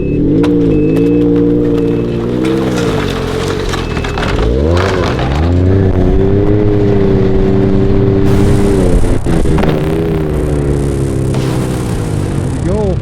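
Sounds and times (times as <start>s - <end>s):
snowmobile engine running: 0.0s - 13.0s.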